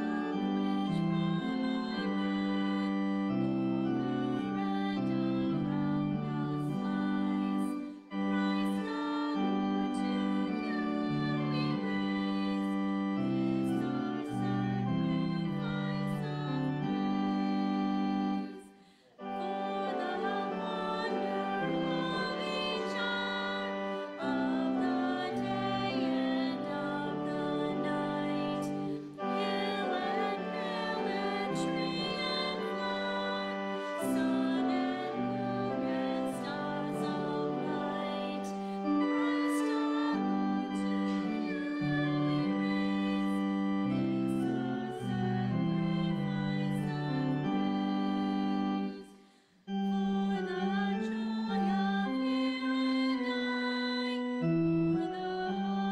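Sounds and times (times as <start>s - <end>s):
congregation singing a hymn: 0.0s - 49.0s
keyboard accompaniment: 0.0s - 55.9s.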